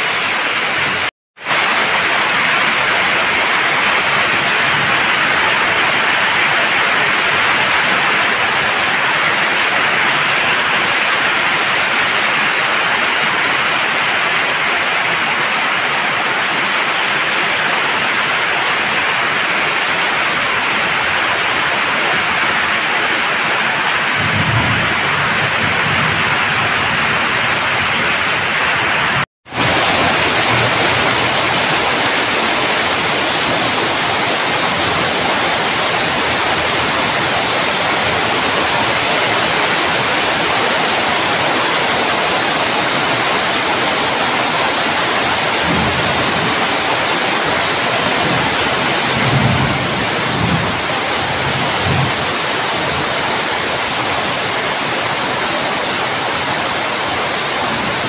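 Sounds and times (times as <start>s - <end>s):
heavy rain on metal roof: 0.0s - 58.0s.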